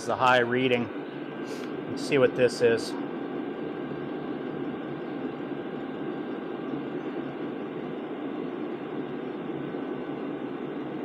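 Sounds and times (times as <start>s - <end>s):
air heater blowing: 0.0s - 11.0s.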